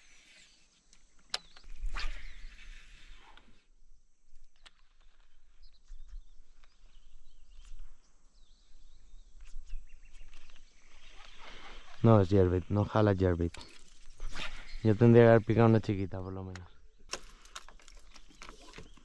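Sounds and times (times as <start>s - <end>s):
bird chirps: 0.0s - 3.6s, 4.4s - 17.1s.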